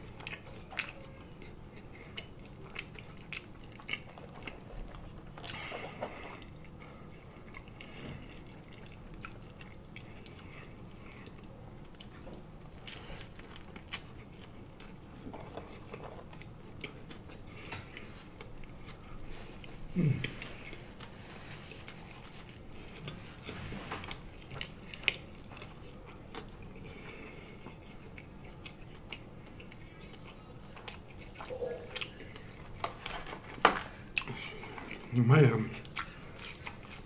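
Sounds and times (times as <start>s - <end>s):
person chewing and lip-smacking: 0.0s - 21.1s, 24.0s - 33.1s, 34.0s - 35.1s, 35.8s - 37.0s.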